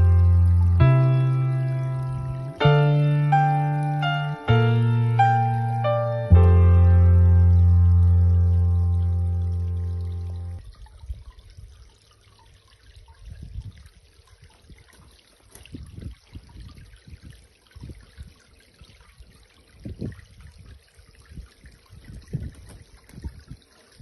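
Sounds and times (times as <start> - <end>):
water gurgling: 0.0 - 24.0
waterfall splashing into pond: 0.0 - 24.0.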